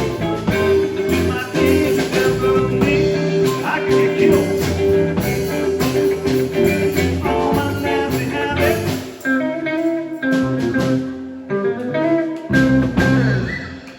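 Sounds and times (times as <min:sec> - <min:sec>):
bass: 0:00.0 - 0:13.9
blues guitar: 0:00.0 - 0:13.9.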